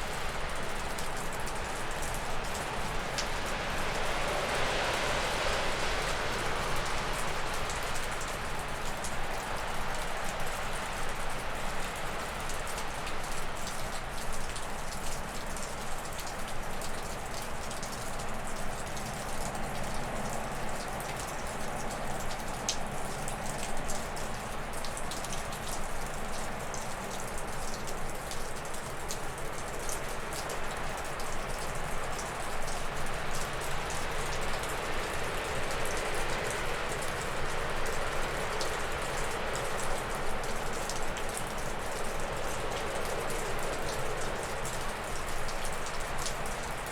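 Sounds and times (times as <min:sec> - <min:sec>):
meltwater dripping off a roof: 0:00.0 - 0:46.9.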